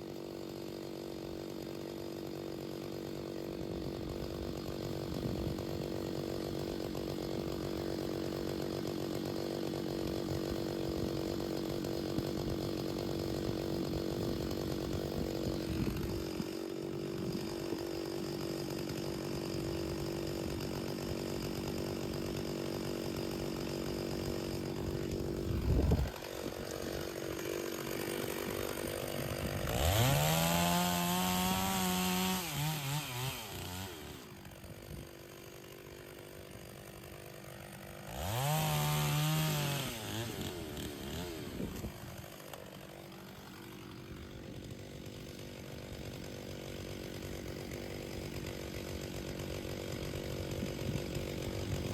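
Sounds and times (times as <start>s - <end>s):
chainsaw running and revving: 0.0s - 51.9s.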